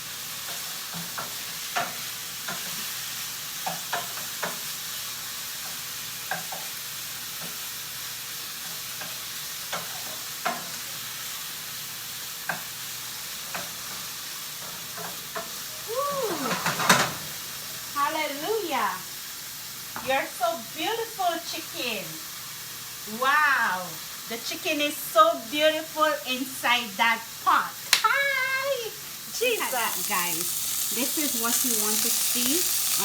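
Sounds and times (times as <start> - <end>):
chicken sizzling in a pot: 0.0 - 33.0.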